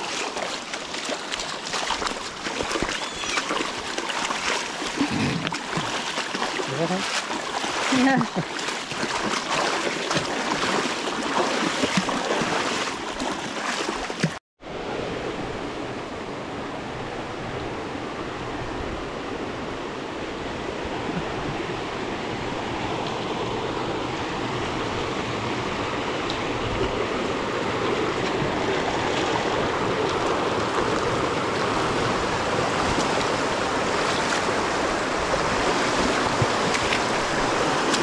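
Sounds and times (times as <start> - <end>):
river water rushing over rocks: 0.0 - 14.4, 20.6 - 38.0.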